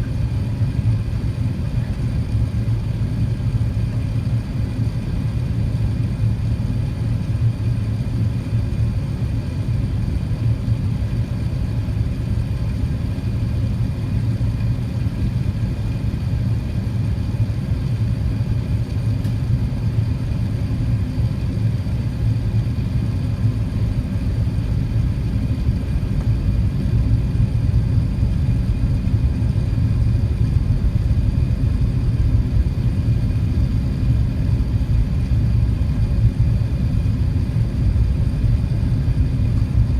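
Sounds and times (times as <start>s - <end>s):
airplane cabin engine rumble: 0.0s - 39.9s
faint steady whine: 0.0s - 39.9s.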